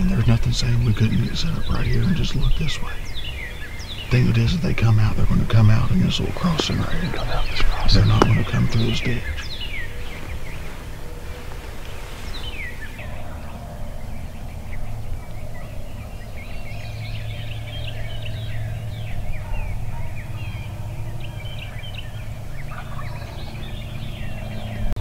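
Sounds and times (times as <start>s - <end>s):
turkeys gobbling: 0.0s - 24.7s
songbirds chirping and trilling: 0.0s - 25.0s
steady low hum: 0.0s - 25.0s.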